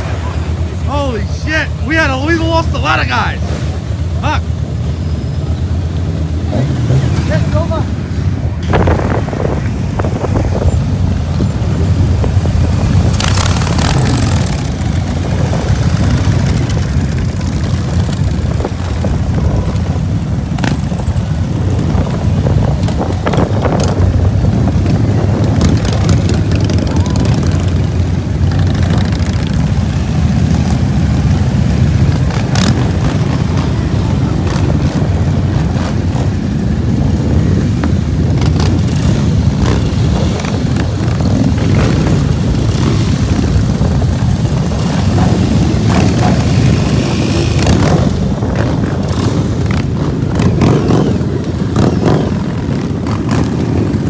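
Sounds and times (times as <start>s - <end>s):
motorcycle engine drone: 0.0s - 54.0s
wind rumble on microphone: 6.4s - 54.0s.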